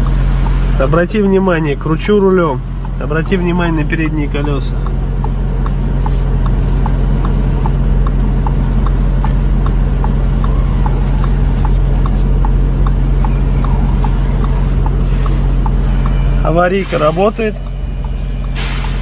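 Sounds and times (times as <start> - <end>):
hazard indicator ticking: 0.0 - 19.0
low hum in car cabin: 0.0 - 19.0.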